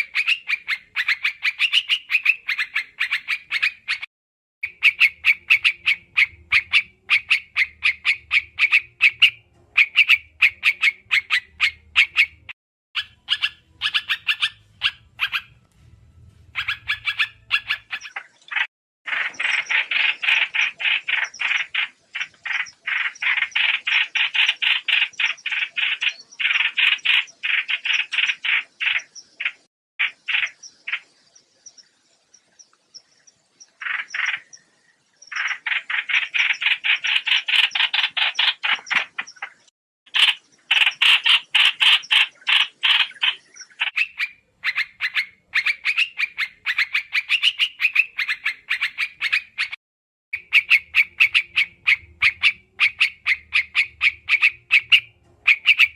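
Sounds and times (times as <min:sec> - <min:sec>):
bird calling harsh repeated notes: 0:00.0 - 0:31.8, 0:33.6 - 0:49.8, 0:50.4 - 0:55.9.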